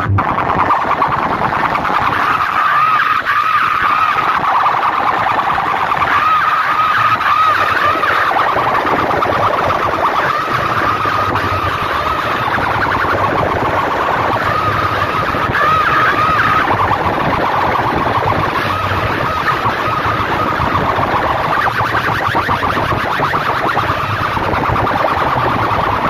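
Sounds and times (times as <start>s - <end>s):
dense noise: 0.0s - 26.0s
warbling siren from loudspeakers: 0.0s - 26.0s.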